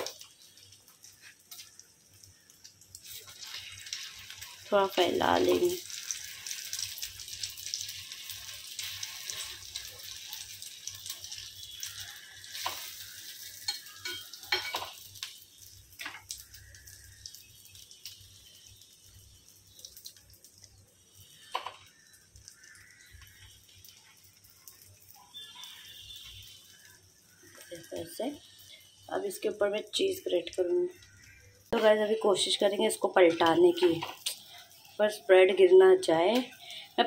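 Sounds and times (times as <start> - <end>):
egg sizzling in oil: 0.0 - 37.0.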